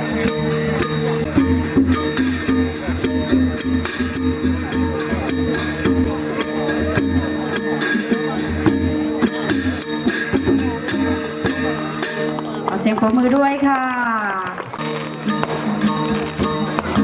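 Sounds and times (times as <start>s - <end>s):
percussion ensemble dance music: 0.0s - 17.0s.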